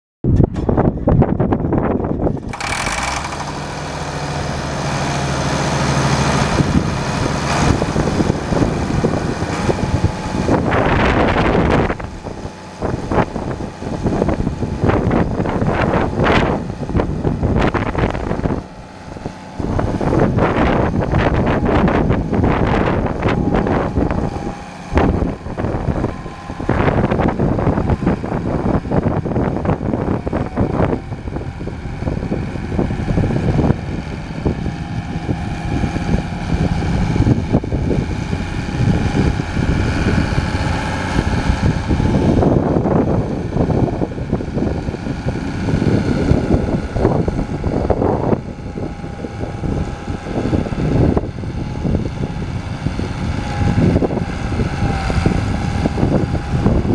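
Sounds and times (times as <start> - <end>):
tractor diesel engine running: 0.2 - 56.9
wind buffeting microphone: 0.2 - 56.9.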